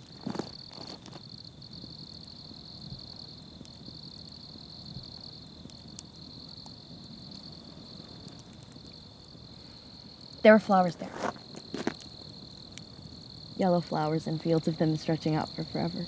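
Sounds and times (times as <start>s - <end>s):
crickets chirping: 0.0s - 16.0s
faint outdoor hum: 0.0s - 16.0s.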